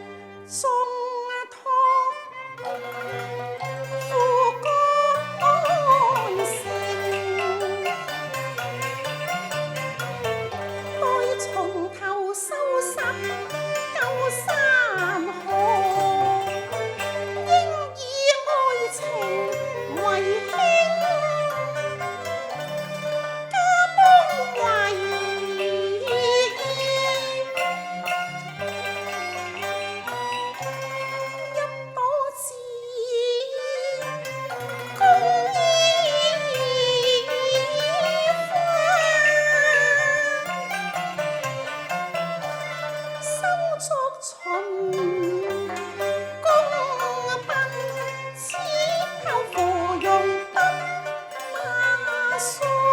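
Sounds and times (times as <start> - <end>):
opera accompaniment ensemble: 0.0 - 52.9.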